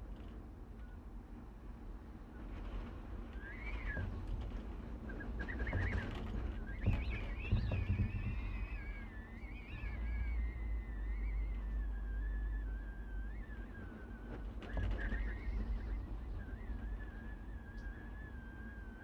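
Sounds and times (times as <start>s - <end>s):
low wind rumble: 0.0s - 19.0s
wind howling with whistle: 0.0s - 19.0s.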